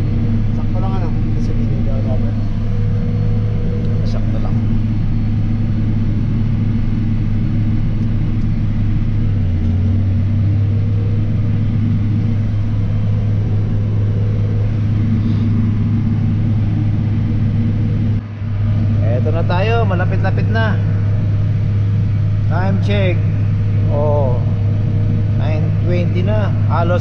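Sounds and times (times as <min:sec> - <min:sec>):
tractor diesel engine droning: 0:00.0 - 0:27.0.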